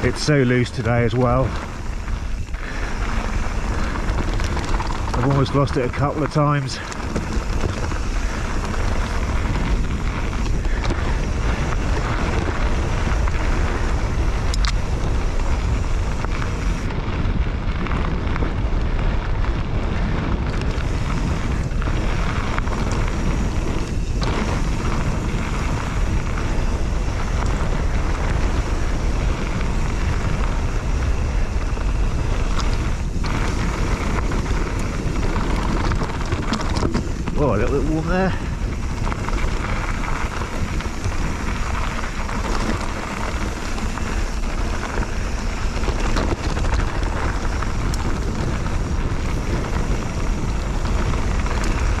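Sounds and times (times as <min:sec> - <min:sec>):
bike rattling: 0:00.0 - 0:52.0
tyres rolling on gravel: 0:00.0 - 0:52.0
wind buffeting microphone: 0:00.0 - 0:52.0.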